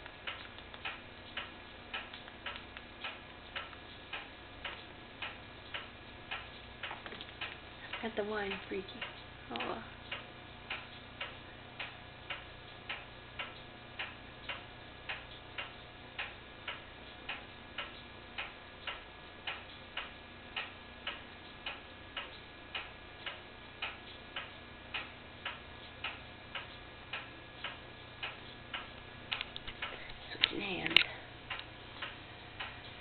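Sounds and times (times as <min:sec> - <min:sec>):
faint steady hum: 0:00.0 - 0:33.0
steady ticking: 0:00.0 - 0:33.0.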